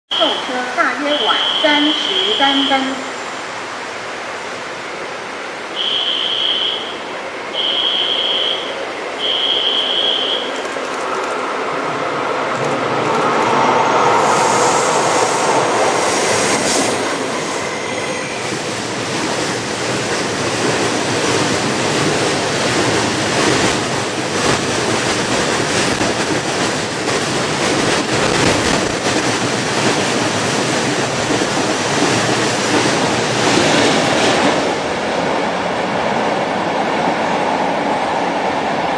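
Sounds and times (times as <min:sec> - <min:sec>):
train wheels rumbling on rail: 0:00.2 - 0:38.9.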